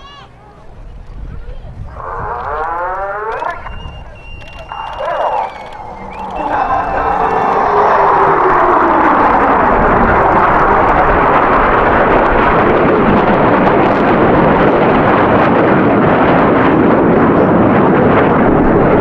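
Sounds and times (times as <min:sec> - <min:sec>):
jet aircraft engine roar: 0:01.8 - 0:19.0.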